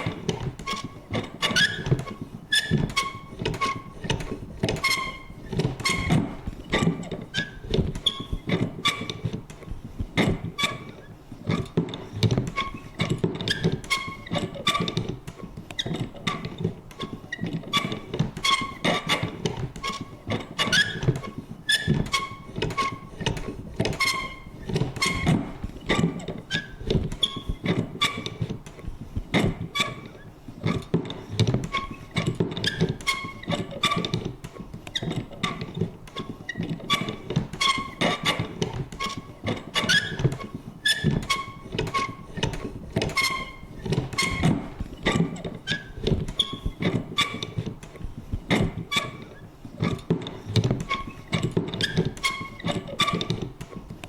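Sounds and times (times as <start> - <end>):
squeaky creak: 0.0 - 9.4, 10.2 - 15.2, 15.8 - 28.6, 29.4 - 53.7.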